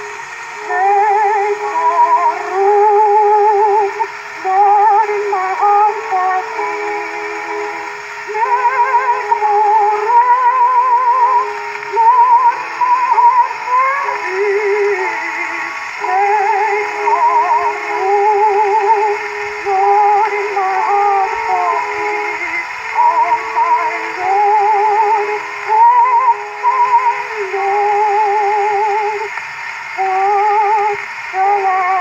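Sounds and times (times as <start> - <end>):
faint orchestra: 0.0 - 32.0
record surface hiss: 0.0 - 32.0
soprano singing with vibrato: 0.0 - 32.0.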